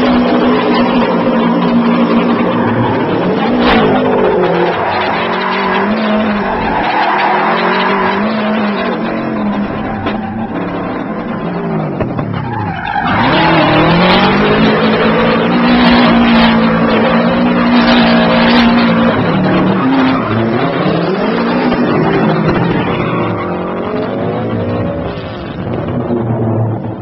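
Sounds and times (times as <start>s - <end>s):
tyres squealing on pavement: 0.0s - 24.0s
rally car engine at high revs: 0.0s - 27.0s.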